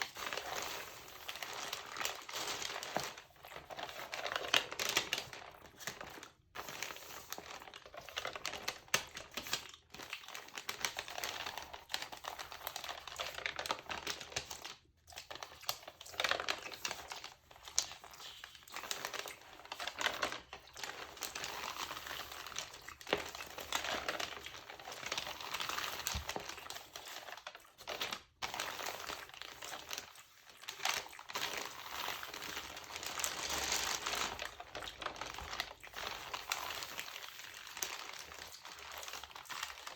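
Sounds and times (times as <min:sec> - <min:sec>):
magazine pages crinkling: 0:00.0 - 0:39.9.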